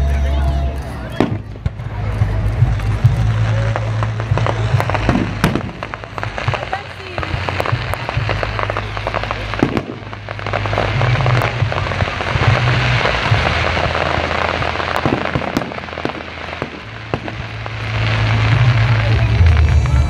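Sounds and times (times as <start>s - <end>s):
fireworks crackling: 0.0s - 20.0s
fireworks bursting with bangs: 0.1s - 20.0s.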